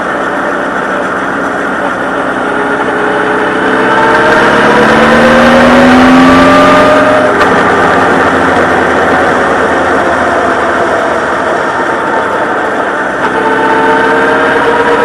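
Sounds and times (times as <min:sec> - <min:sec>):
motorcycle engine revving: 0:00.0 - 0:15.0
steady rushing noise: 0:00.0 - 0:15.0.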